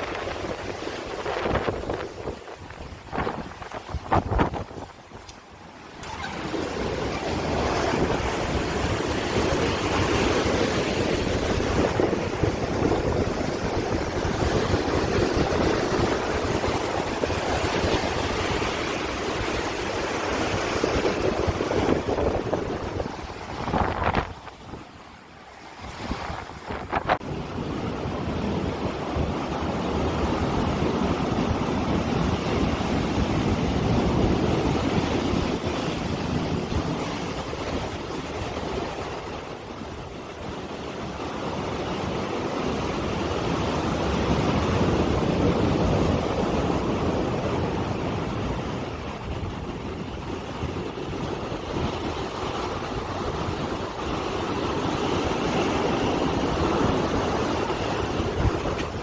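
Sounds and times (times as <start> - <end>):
wind on microphone: 0.0 - 25.1, 25.7 - 59.0
rough sea surf: 0.0 - 59.0.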